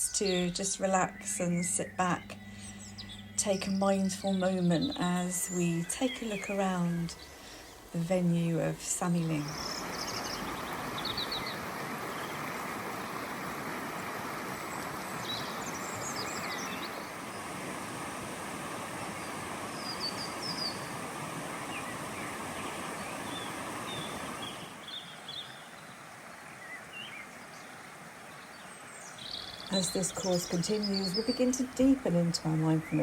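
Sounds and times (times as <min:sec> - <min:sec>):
water rushing: 0:00.0 - 0:02.6, 0:03.2 - 0:33.0
small birds chirping: 0:00.0 - 0:33.0.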